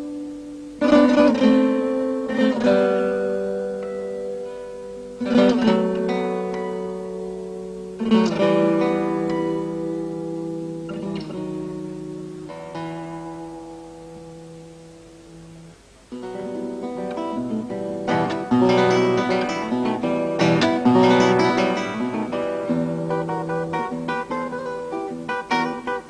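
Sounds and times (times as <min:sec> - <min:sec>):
acoustic guitar chord ringing: 0:00.0 - 0:26.0
strummed acoustic guitar chords: 0:00.0 - 0:26.0.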